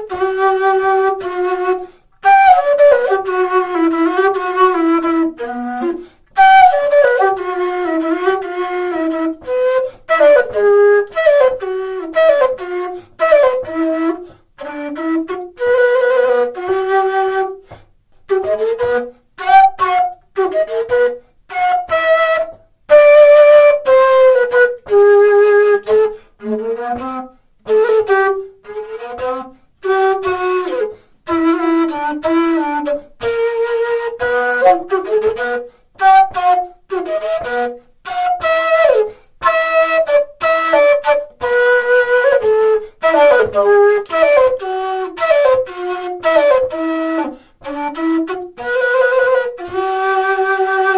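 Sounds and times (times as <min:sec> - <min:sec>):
flute melody: 0:00.0 - 0:50.9.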